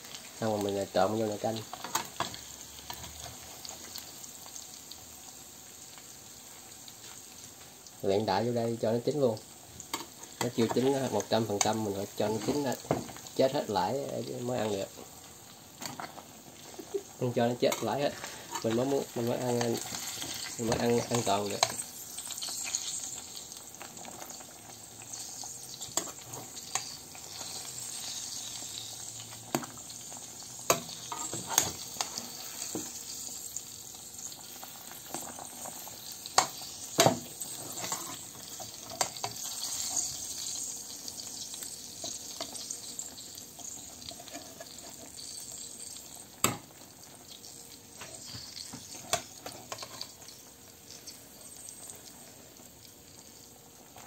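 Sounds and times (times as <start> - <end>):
food sizzling in frying pan: 0.0 - 54.0.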